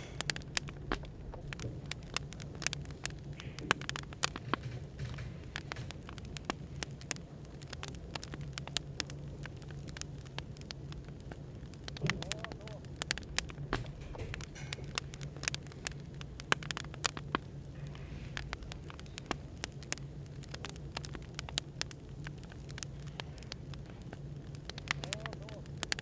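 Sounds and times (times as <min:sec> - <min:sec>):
low room noise hum: 0:00.0 - 0:26.0
wood fire crackling: 0:00.0 - 0:26.0.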